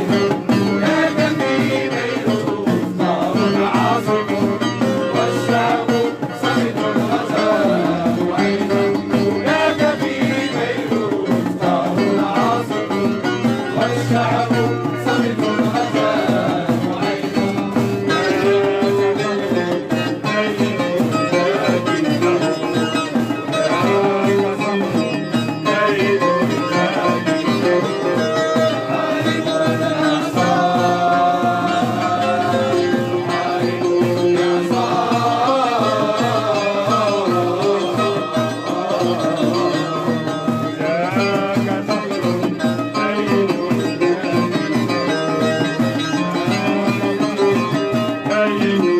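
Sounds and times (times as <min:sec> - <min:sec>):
folk music with hand drums: 0:00.0 - 0:48.9.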